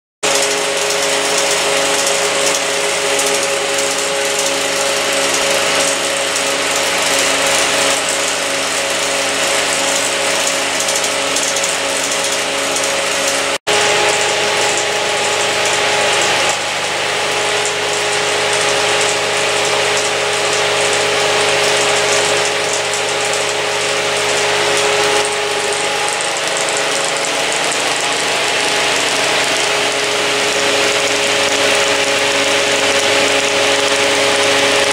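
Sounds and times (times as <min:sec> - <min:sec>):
film projector whirring and clattering: 0:00.2 - 0:34.9.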